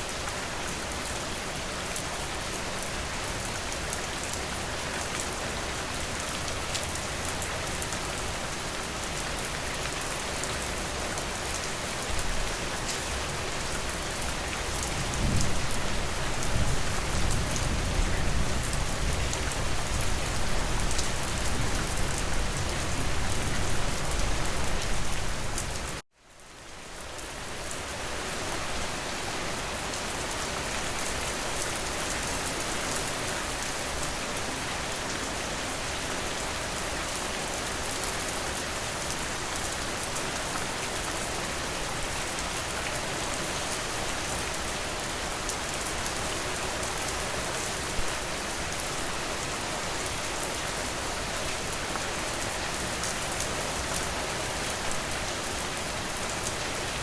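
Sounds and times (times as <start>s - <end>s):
heavy rain falling: 0.0s - 26.0s, 26.8s - 57.0s.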